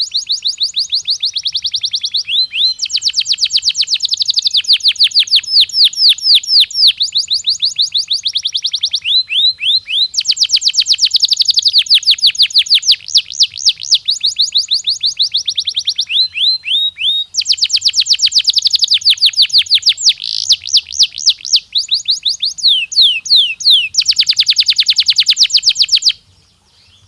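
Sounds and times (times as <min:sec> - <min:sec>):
canary trilling song: 0:00.0 - 0:27.0.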